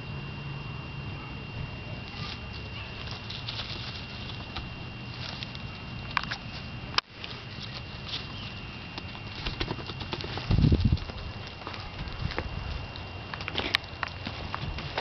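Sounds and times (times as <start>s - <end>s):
rabbit scrabbling over gravel: 2.0s - 15.0s.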